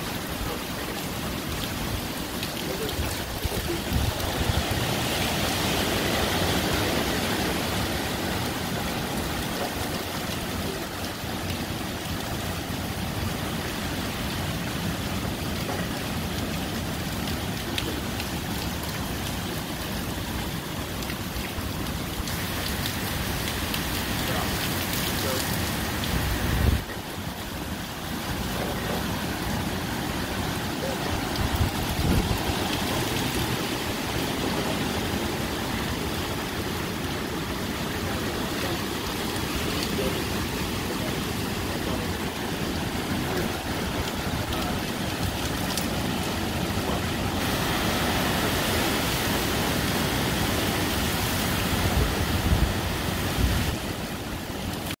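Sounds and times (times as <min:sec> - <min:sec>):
wind gusts rumbling on microphone: 0:00.0 - 0:11.0, 0:21.6 - 0:55.0
heavy rain pouring: 0:00.0 - 0:55.0
wind blowing through trees: 0:00.0 - 0:55.0.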